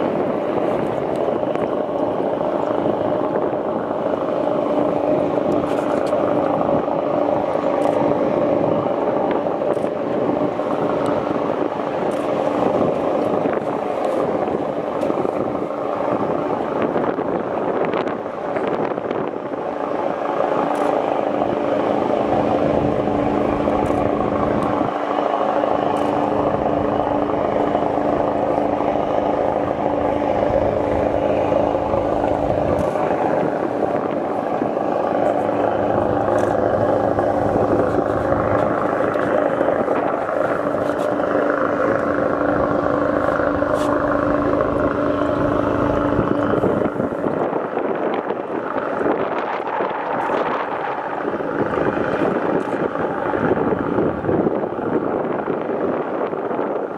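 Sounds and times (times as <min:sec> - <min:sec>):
boat engine droning: 0:00.0 - 0:56.9.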